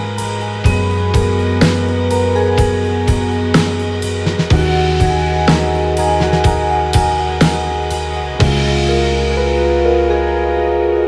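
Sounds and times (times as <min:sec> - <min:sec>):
drum hits over held chords: 0:00.0 - 0:09.9.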